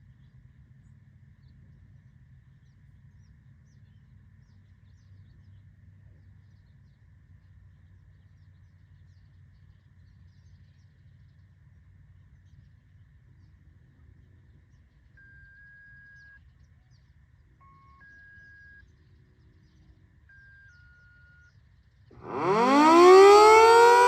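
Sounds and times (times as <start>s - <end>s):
low steady background rumble: 0.0s - 22.6s.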